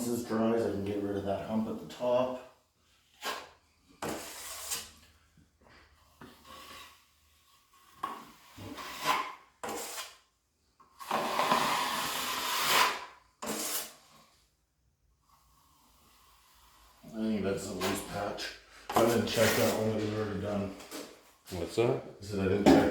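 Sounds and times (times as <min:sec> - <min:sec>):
drywall knife scraping compound: 0:02.8 - 0:21.4.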